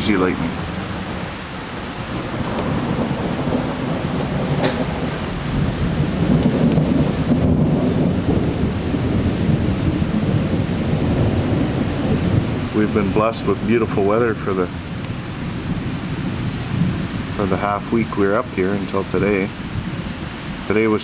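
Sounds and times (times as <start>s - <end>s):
heavy rain: 0.0s - 21.0s
thunder rumbling: 0.0s - 21.0s.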